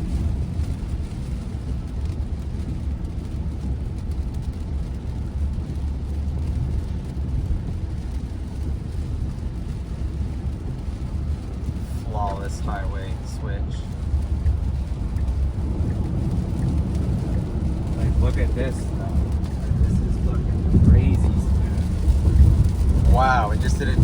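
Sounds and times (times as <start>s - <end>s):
faint hiss of wet road: 0.0s - 24.0s
road and tyre rumble in car: 0.0s - 24.0s.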